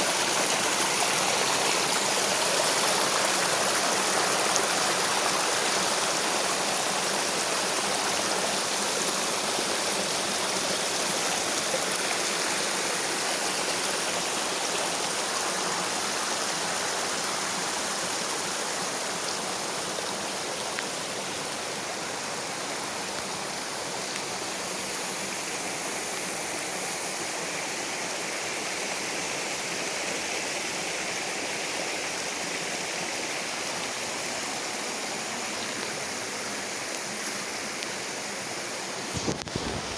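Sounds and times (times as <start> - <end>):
rushing water: 0.0 - 39.9
steady rain: 0.0 - 39.9.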